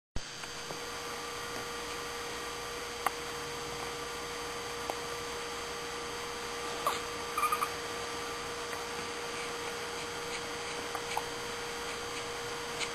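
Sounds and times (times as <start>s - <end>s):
electrical hum with hiss: 0.2s - 12.9s.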